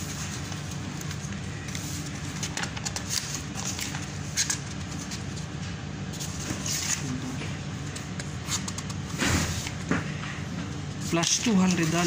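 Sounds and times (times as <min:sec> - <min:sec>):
paper sheets rustling: 0:00.0 - 0:10.2, 0:11.1 - 0:12.0
low machinery hum: 0:00.0 - 0:12.0.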